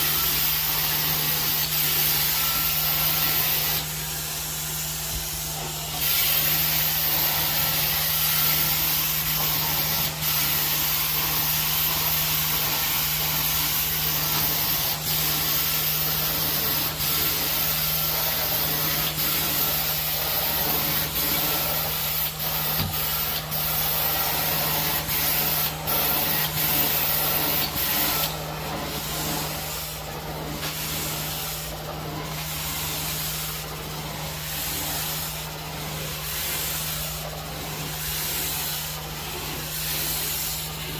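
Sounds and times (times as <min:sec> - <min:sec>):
carpet extraction wand hissing: 0:00.0 - 0:40.9.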